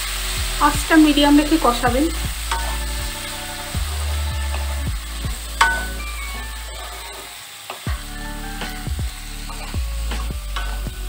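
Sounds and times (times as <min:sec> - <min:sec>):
background music: 0:00.0 - 0:11.0
vegetables sizzling: 0:00.0 - 0:11.0.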